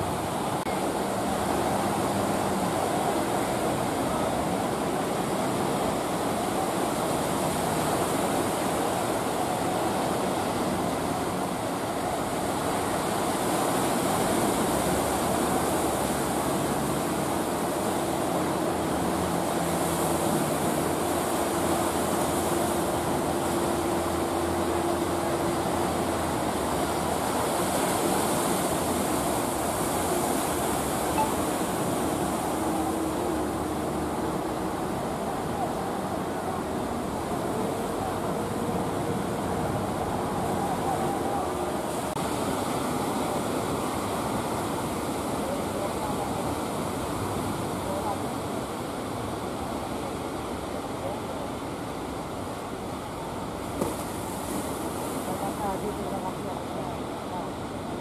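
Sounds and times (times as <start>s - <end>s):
low hum of boat engines: 0.0s - 58.0s
waves breaking: 0.0s - 58.0s.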